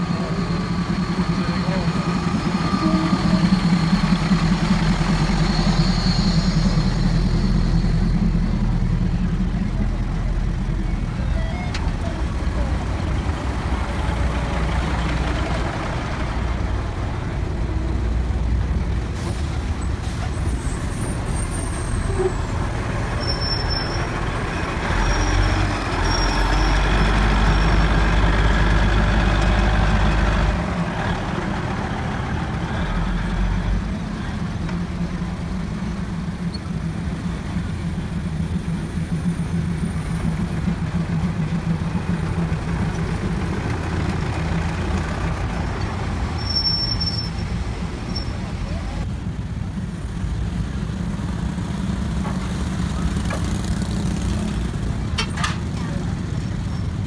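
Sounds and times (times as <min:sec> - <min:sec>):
diesel train rolling past: 0:00.0 - 0:57.0.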